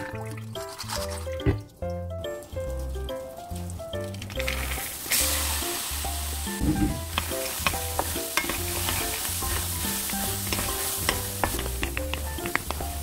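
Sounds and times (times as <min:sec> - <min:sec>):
beans rattling against pan: 0:00.5 - 0:06.0, 0:07.0 - 0:13.0
soybeans sizzling in a hot pan: 0:02.5 - 0:13.0.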